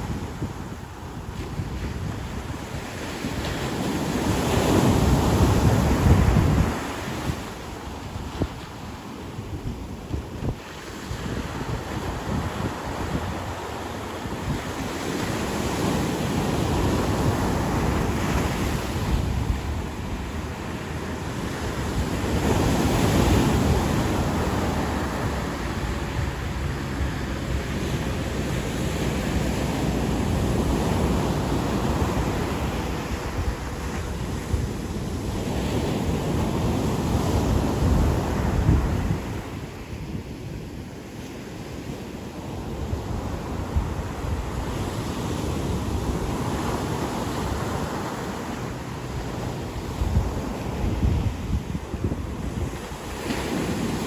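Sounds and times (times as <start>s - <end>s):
ocean surf on beach: 0.0s - 54.0s
wind buffeting microphone: 0.0s - 54.0s.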